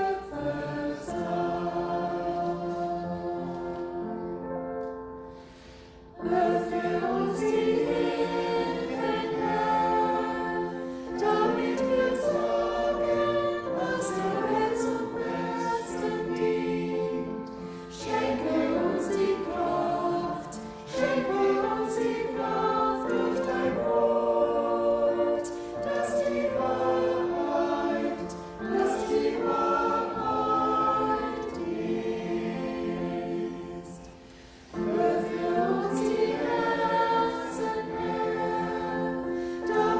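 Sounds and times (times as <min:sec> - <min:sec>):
group singing a hymn: 0:00.0 - 0:39.9.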